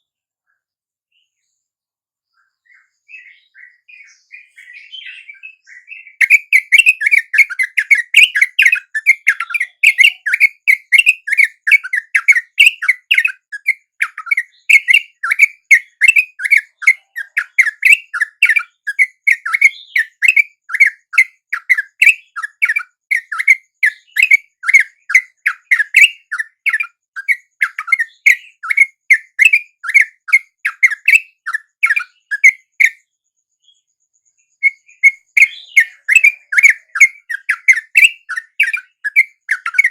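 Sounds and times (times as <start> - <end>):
bulbul chattering calls: 3.2 - 33.0, 34.6 - 39.9.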